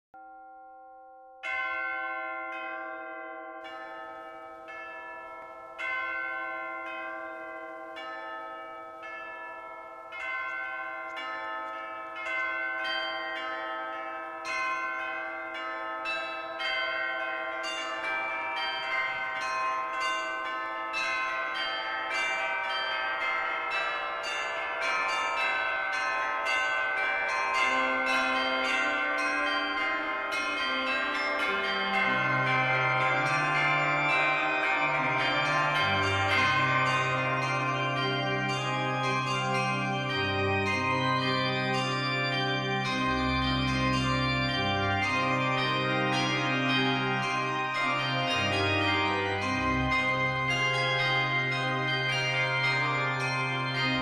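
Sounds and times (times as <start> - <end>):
tuned bells ringing: 0.2 - 54.0.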